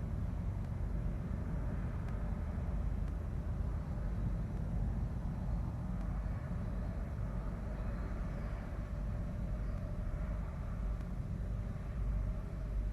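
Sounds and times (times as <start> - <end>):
low outdoor rumble with hiss: 0.0 - 12.9.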